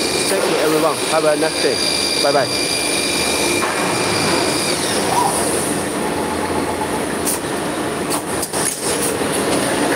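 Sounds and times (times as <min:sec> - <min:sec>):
factory machinery noise: 0:00.0 - 0:09.9.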